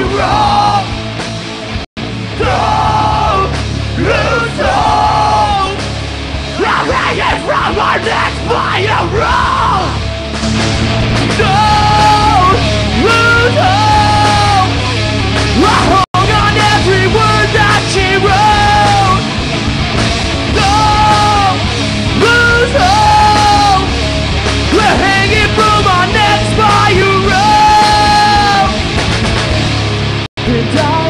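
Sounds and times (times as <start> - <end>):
rock band playing loud: 0.0 - 31.0.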